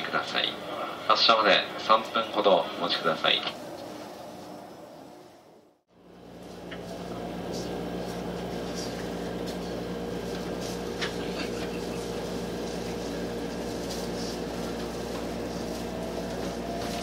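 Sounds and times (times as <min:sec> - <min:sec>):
train electrical hum: 0:00.0 - 0:17.0.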